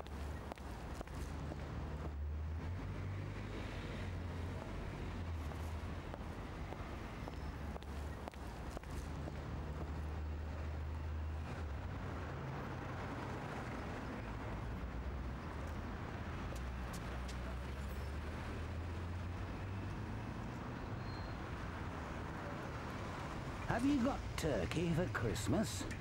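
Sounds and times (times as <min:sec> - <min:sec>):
traffic engine rumble: 0:00.0 - 0:26.0.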